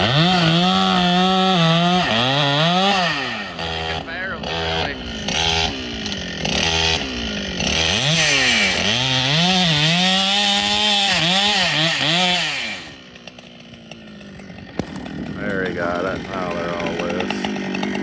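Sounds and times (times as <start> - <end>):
chainsaw cutting log: 0.0 - 18.0
chainsaw idling: 0.0 - 18.0.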